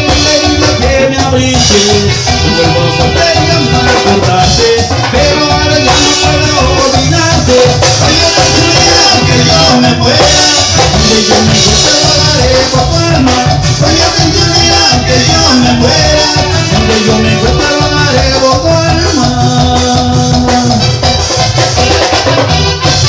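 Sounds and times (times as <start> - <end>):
latin dance band playing: 0.0 - 23.0.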